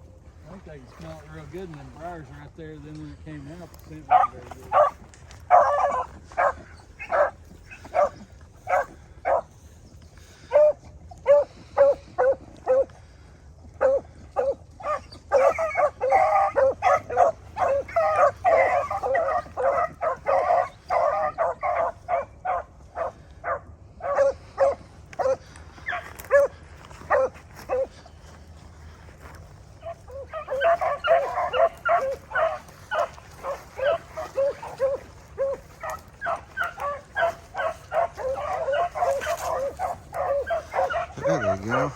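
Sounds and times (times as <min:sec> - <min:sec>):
dogs bawling in chorus: 0:00.0 - 0:41.9.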